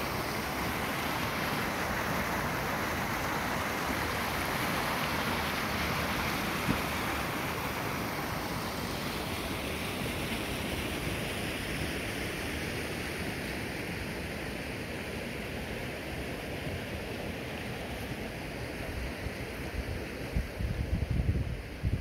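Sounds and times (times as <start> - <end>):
rushing stream water: 0.0 - 22.0.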